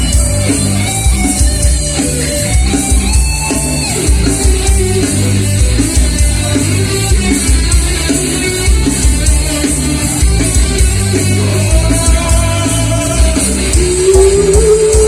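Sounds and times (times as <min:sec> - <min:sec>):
bass guitar: 0:00.0 - 0:15.0
drum beat: 0:00.0 - 0:15.0
electric guitar: 0:00.0 - 0:15.0.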